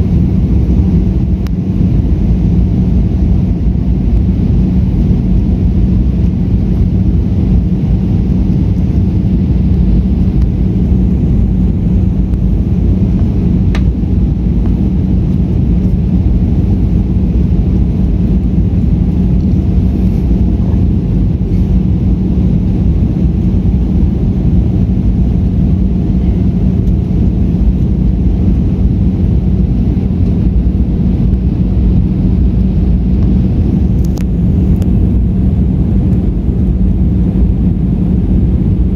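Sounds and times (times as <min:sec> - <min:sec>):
airplane cabin engine rumble: 0:00.0 - 0:38.9
constant low hum: 0:00.0 - 0:38.9.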